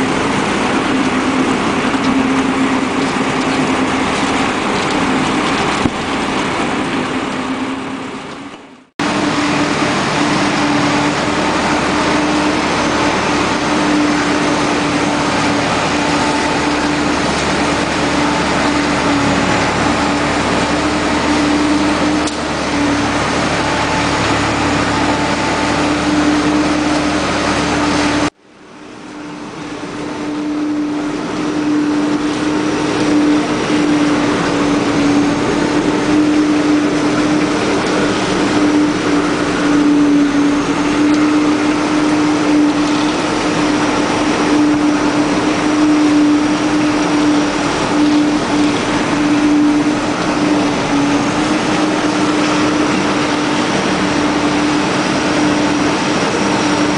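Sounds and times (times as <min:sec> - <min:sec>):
paddles mixing silage: 0:00.0 - 0:56.9
steady hum: 0:00.0 - 0:56.9
tractor running: 0:00.0 - 0:56.9.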